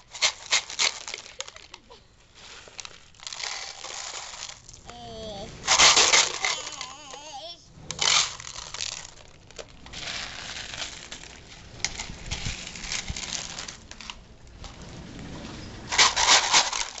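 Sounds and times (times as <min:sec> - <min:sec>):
dried beans rattling in plastic tub: 0:00.0 - 0:04.9, 0:05.6 - 0:07.3, 0:07.9 - 0:14.8, 0:15.8 - 0:17.0.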